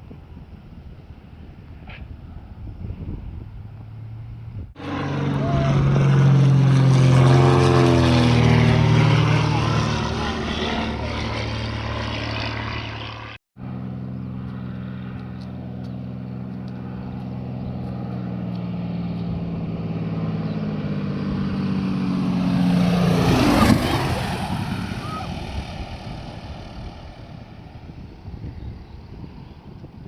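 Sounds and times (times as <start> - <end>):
propeller aircraft passing: 0.0 - 30.0.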